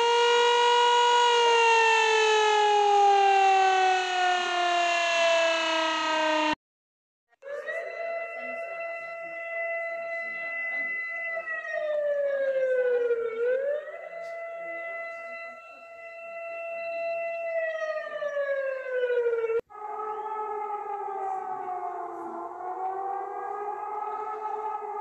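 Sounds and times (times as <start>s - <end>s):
emergency siren sliding in pitch: 0.0s - 6.6s, 8.2s - 25.0s
lower siren tone: 0.0s - 6.6s, 7.4s - 25.0s.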